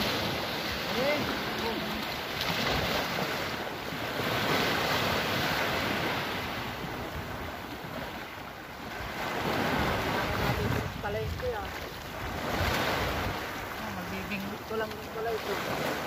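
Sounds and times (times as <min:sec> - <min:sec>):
small waves washing on beach: 0:00.0 - 0:16.0
wind buffeting microphone: 0:00.0 - 0:16.0.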